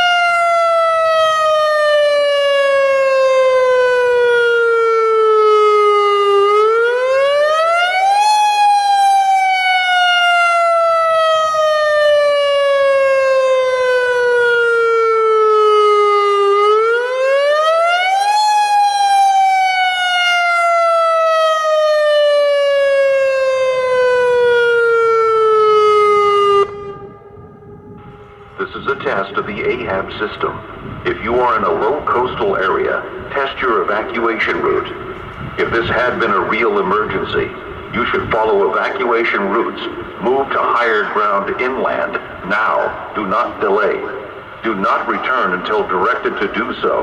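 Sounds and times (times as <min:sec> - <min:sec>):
warning siren wailing: 0:00.0 - 0:47.0.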